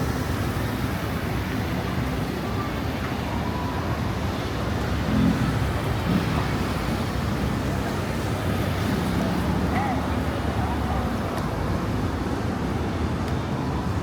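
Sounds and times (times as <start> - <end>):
rumble of passing cars: 0.0 - 14.0.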